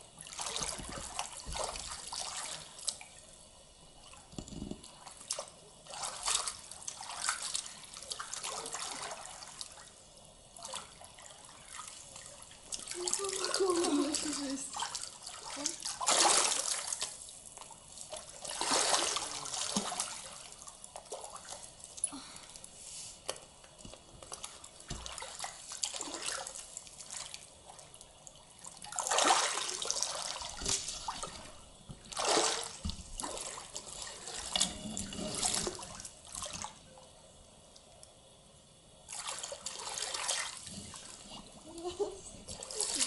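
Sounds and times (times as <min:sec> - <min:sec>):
water splashing: 0:00.2 - 0:03.2, 0:04.1 - 0:09.9, 0:10.6 - 0:21.8, 0:24.3 - 0:27.8, 0:28.6 - 0:36.8, 0:39.1 - 0:43.0.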